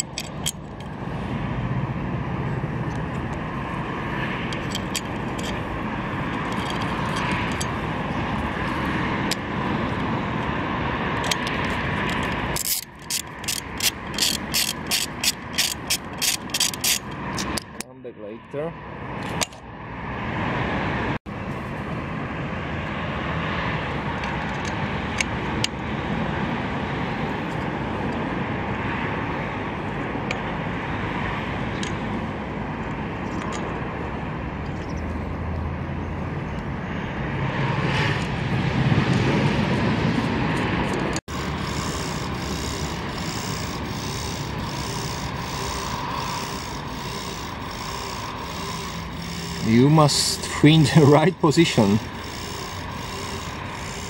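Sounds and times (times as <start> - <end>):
outdoor background noise: 0.0 - 54.0.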